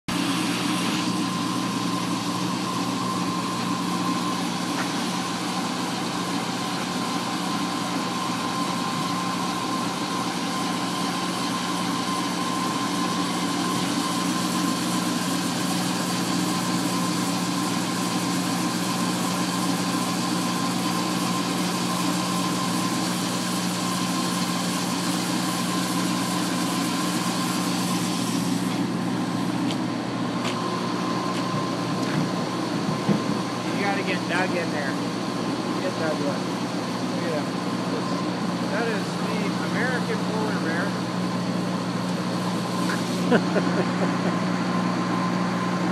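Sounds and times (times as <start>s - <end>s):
wire saw drone: 0.1s - 32.8s, 33.4s - 45.3s
high machine whine: 0.1s - 45.9s.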